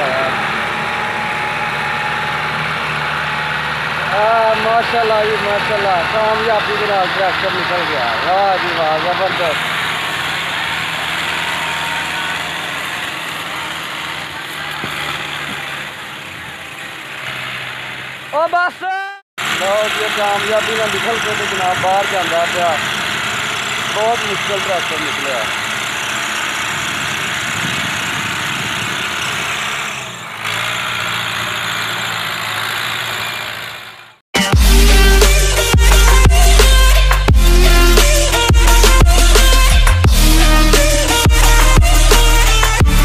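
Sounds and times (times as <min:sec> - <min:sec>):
tractor engine running: 0:00.0 - 0:18.7, 0:19.4 - 0:43.0.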